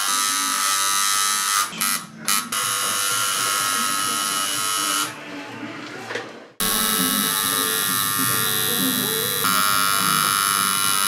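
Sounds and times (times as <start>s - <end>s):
tattoo machine buzzing: 0.0s - 5.2s, 6.6s - 11.0s.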